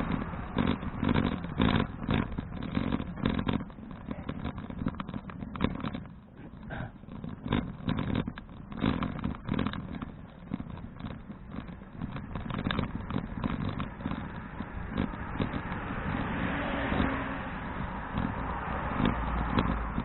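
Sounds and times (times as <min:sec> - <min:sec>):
bicycle rattling: 0:00.0 - 0:20.0
wind buffeting microphone: 0:00.0 - 0:20.0.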